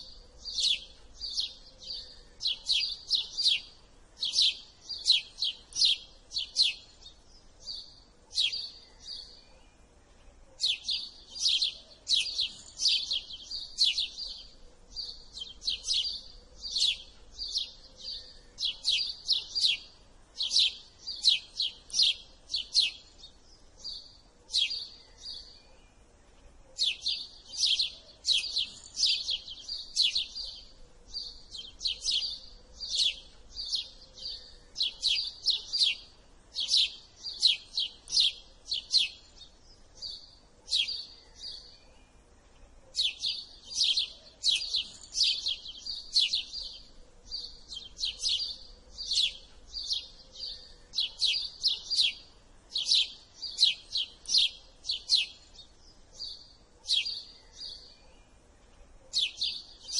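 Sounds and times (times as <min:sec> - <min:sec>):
sparrow chirping: 0:00.0 - 0:59.9.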